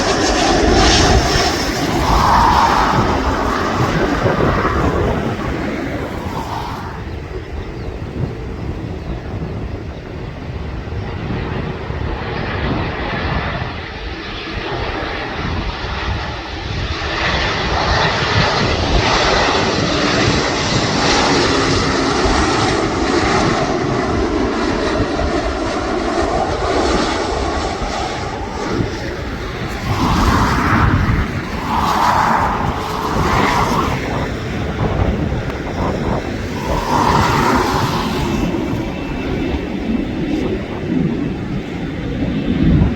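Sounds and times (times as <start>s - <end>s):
airliner engines: 0.0s - 42.9s
wind rumble on microphone: 0.0s - 42.9s.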